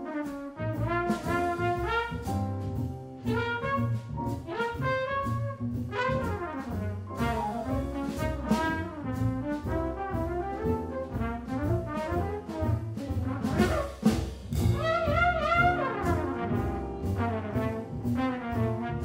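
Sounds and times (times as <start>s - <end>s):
double bass: 0.0s - 19.0s
drums and cymbals: 0.0s - 19.0s
piano: 0.0s - 19.0s
trumpet melody: 0.0s - 19.0s.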